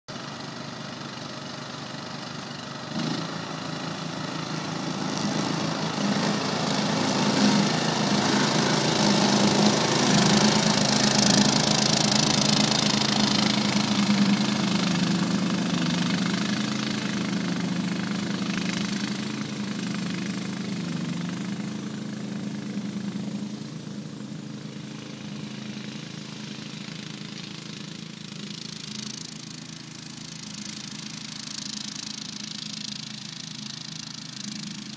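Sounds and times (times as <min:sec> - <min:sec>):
ride-on mower engine mowing: 0:00.1 - 0:34.9.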